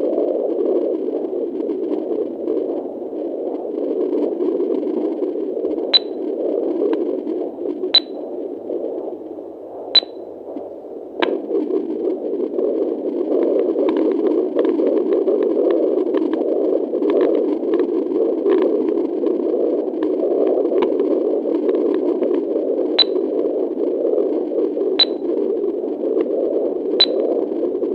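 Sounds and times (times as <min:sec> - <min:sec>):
static: 0:00.0 - 0:27.9.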